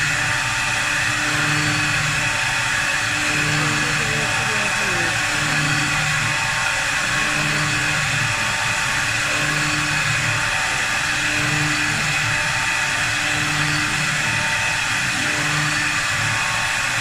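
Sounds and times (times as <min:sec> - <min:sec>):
low pulsing hum: 0:00.0 - 0:16.8
wood lathe whirring with hiss: 0:00.0 - 0:17.0.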